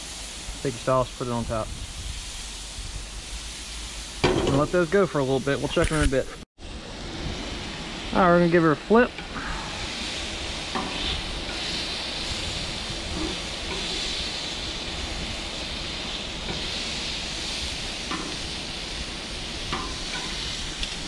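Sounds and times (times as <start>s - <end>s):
meat sizzling on a griddle: 0.0s - 21.0s.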